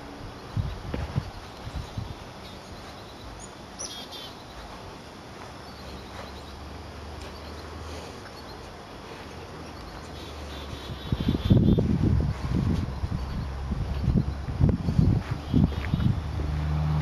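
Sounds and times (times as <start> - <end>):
birds chirping: 0.0 - 16.4.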